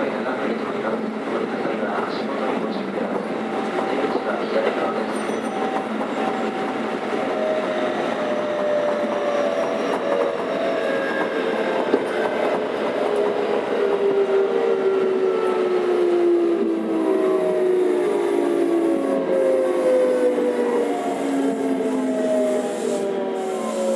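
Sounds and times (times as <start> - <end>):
train rail and running noise: 0.0 - 23.9.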